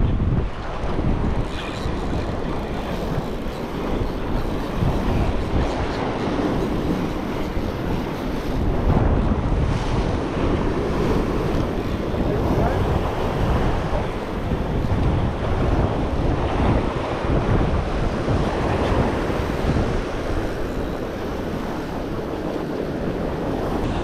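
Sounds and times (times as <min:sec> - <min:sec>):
surf washing against rocks: 0:00.0 - 0:24.0
wind buffeting microphone: 0:00.0 - 0:24.0.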